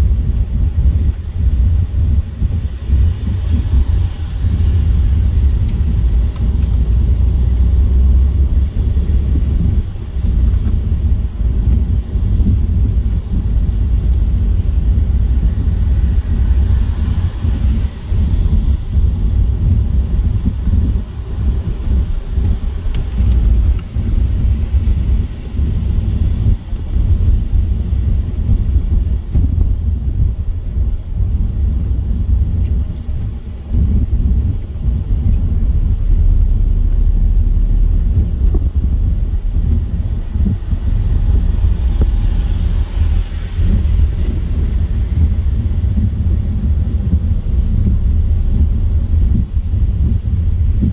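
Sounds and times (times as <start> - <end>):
car driving on wet road: 0.0 - 50.9.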